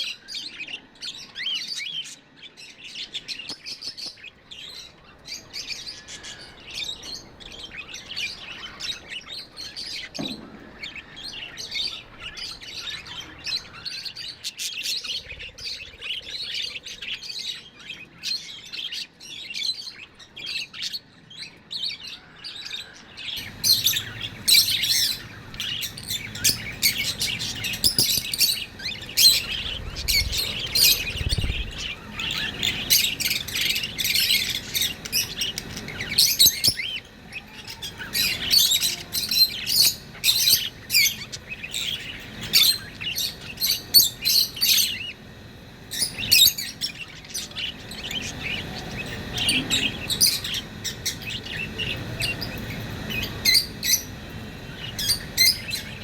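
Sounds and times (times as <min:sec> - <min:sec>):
budgerigars chirping and warbling: 0:00.0 - 0:45.2, 0:45.9 - 0:56.0.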